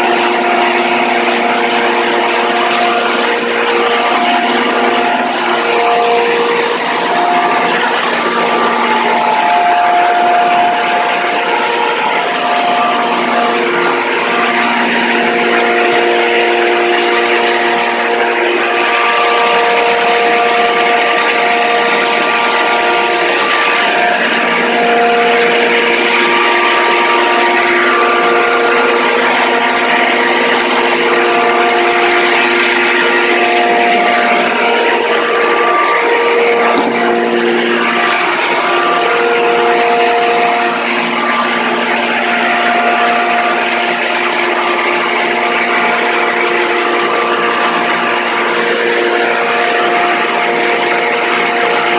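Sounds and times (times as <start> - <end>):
steady machine tones: 0.0 - 51.9
threshing machine whirring drone: 0.0 - 51.9.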